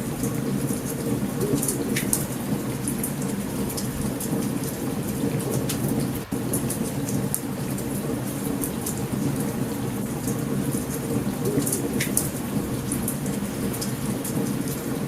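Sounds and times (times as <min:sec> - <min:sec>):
low thunder rumble: 0:00.0 - 0:15.0
steady rain: 0:00.0 - 0:15.0.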